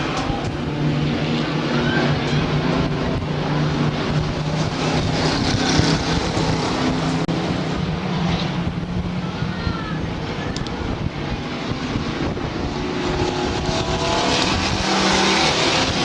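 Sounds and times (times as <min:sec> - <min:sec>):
truck engines racing: 0:00.0 - 0:16.0.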